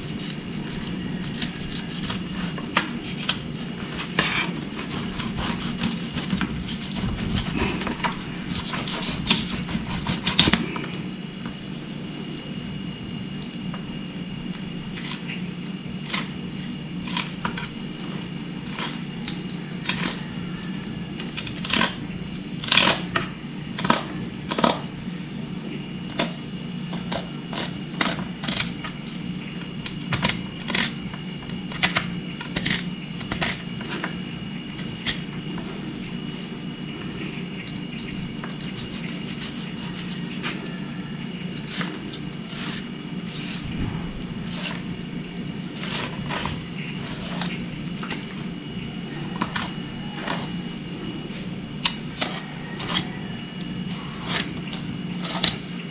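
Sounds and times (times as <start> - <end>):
knife cutting and scraping fish: 0.0 - 24.9, 26.1 - 55.9
steady low hum: 0.0 - 55.9.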